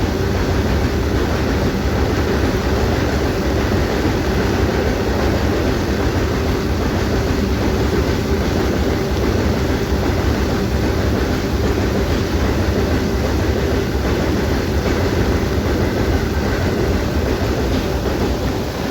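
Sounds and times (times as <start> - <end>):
heavy rain falling: 0.0 - 18.9
train wheels clattering on bridge: 0.0 - 18.9.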